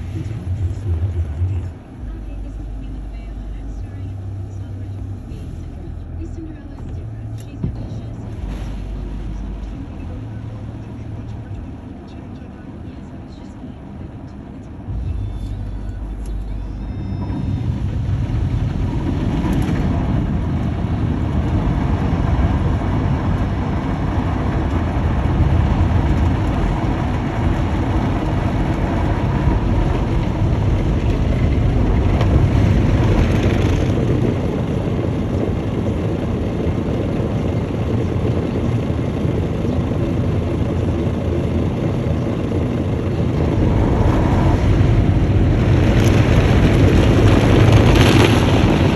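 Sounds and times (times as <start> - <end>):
car wash machine rumbling: 0.0 - 48.9.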